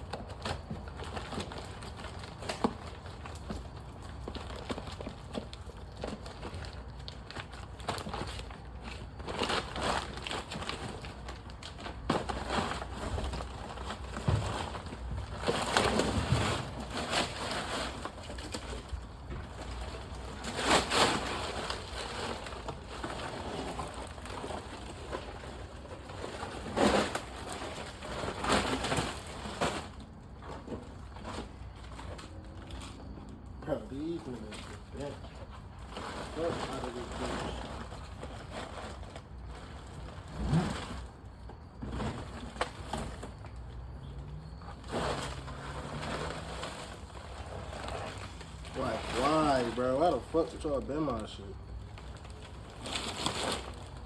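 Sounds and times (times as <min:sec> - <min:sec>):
packaging rustling and crinkling: 0:00.0 - 0:54.0
plastic scraping: 0:00.0 - 0:54.0.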